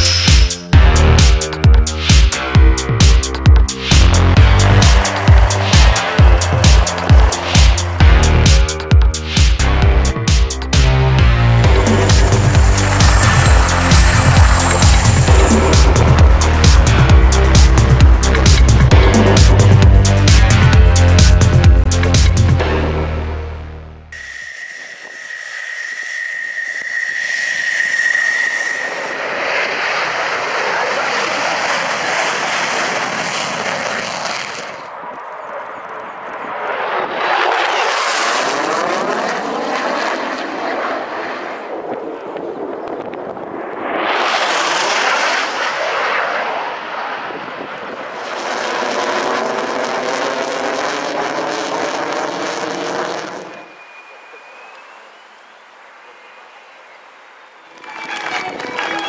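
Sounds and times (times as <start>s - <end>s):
steady high whine: 0.0s - 10.0s, 11.2s - 21.9s, 24.1s - 40.4s, 41.0s - 56.2s
jet aircraft passing: 3.7s - 10.2s, 11.2s - 21.8s, 24.1s - 59.0s.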